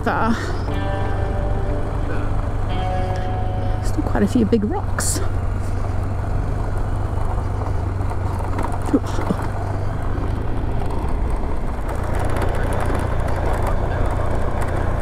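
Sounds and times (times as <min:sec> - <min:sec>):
motorcycle engine running: 0:00.0 - 0:15.0
tyres on gravel: 0:01.8 - 0:15.0.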